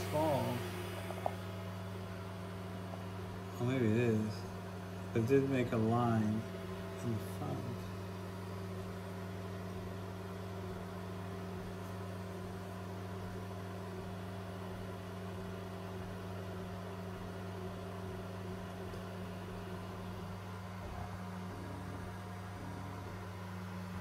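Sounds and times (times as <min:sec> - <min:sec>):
three d printer humming: 0:00.0 - 0:24.0.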